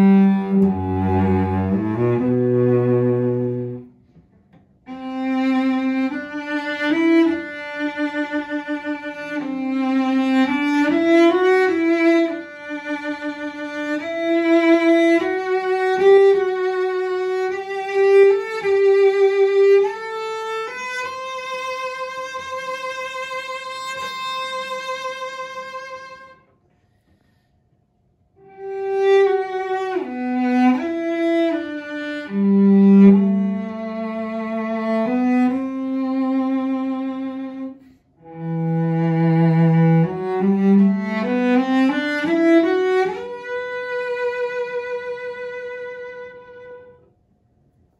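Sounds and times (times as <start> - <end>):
bowed cello melody: 0.0 - 26.5, 28.4 - 47.1.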